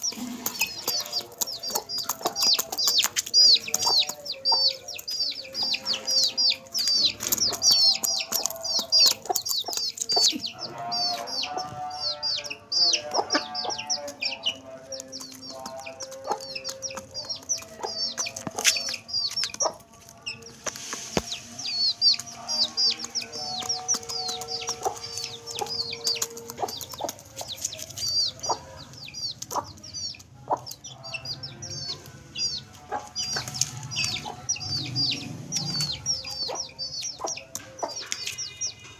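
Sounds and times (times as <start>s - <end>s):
chicks peeping: 0.0s - 38.9s
hen clucking: 0.0s - 38.9s.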